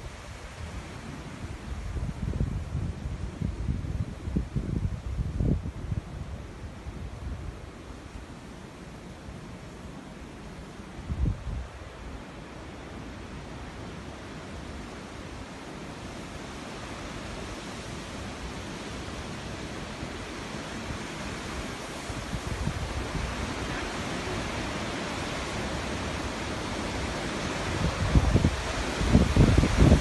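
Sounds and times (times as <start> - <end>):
strong storm wind blowing: 0.0 - 30.0
wind gusts buffeting microphone: 0.0 - 30.0.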